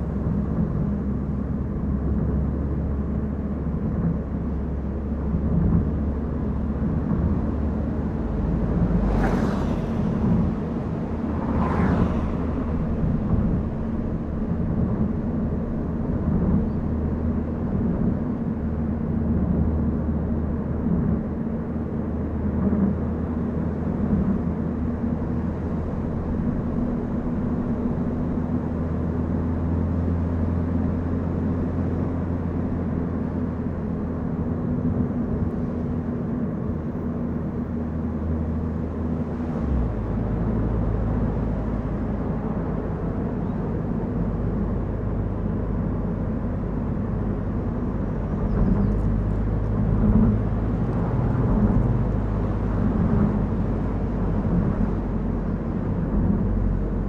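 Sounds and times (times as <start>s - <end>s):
tyre and road noise: 0.0s - 57.0s.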